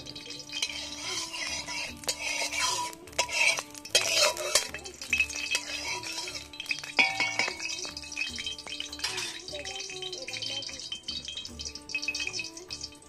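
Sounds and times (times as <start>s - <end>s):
background music with beat: 0.0s - 13.0s
spatula scraping cooking pan: 0.0s - 13.0s.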